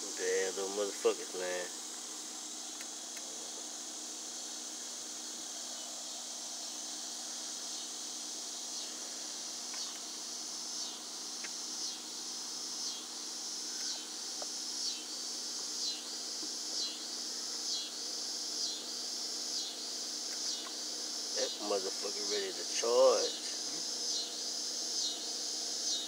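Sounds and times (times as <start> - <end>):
insects chorus pulsing: 0.0 - 26.0.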